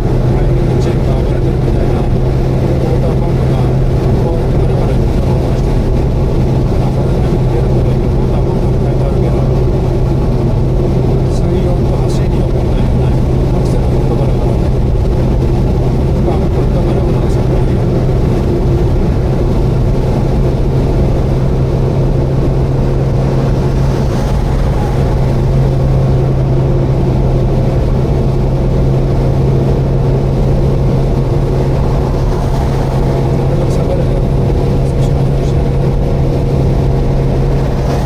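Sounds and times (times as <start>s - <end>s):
car engine drone: 0.0s - 38.0s
road and wind noise: 0.0s - 38.0s.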